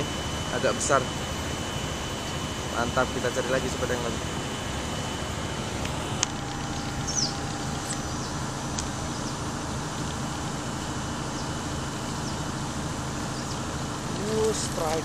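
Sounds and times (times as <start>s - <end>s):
low harbour rumble: 0.0s - 15.0s.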